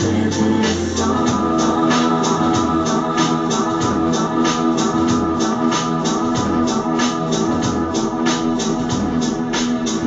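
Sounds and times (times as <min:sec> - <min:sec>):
steady beat: 0:00.0 - 0:10.0.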